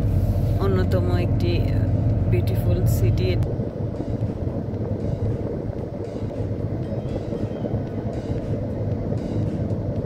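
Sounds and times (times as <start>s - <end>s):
road and engine rumble in car: 0.0s - 10.0s.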